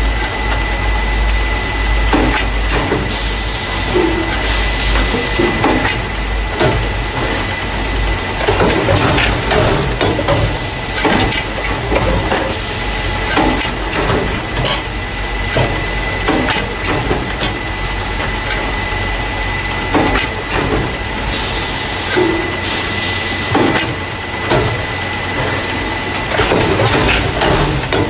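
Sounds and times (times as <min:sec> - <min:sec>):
machine hum with high tone: 0:00.0 - 0:28.0.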